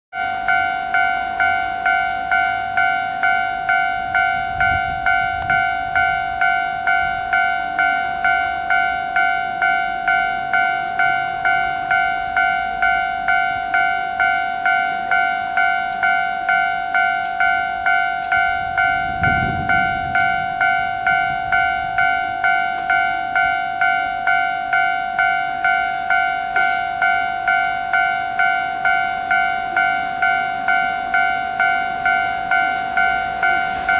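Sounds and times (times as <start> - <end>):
two-tone electronic crossing bell: 0.1 - 33.9.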